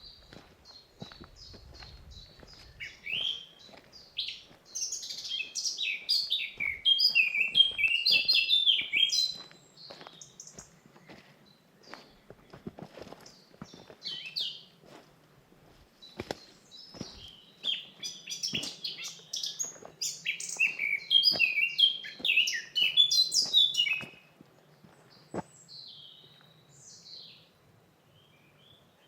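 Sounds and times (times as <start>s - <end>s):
birds singing: 0.0s - 14.8s, 16.0s - 29.0s.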